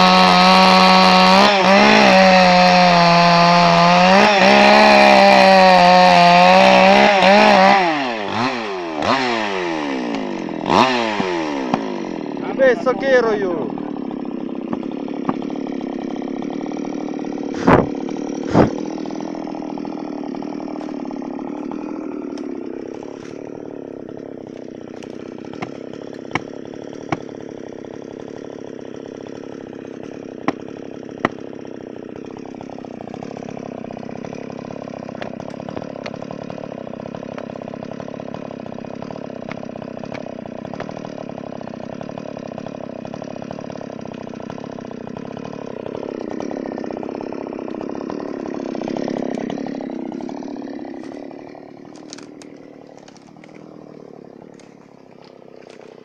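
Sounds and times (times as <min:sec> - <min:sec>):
chainsaw engine running: 0:00.0 - 0:56.0.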